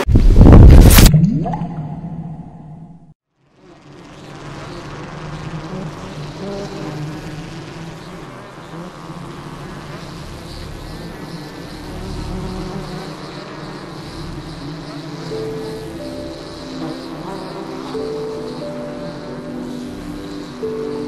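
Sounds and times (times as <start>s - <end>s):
honeybees buzzing in a swarm: 3.4s - 21.0s.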